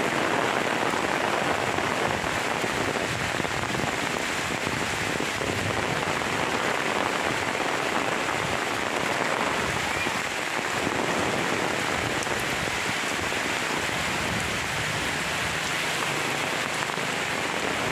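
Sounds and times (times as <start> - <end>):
rain falling on palms: 0.0 - 17.9.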